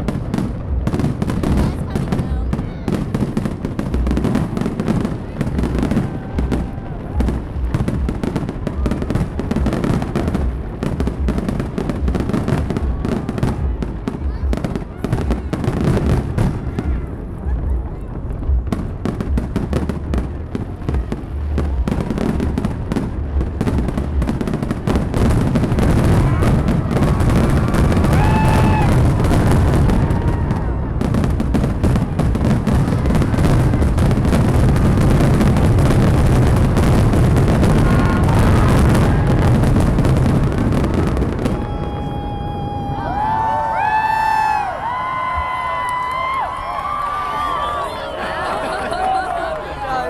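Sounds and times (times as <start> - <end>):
fireworks bursting and crackling: 0.0 - 50.0.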